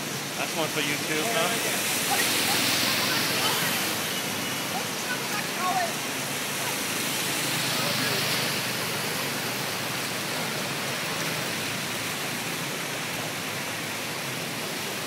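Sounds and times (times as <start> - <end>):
water rushing in flooded street: 0.0 - 15.0.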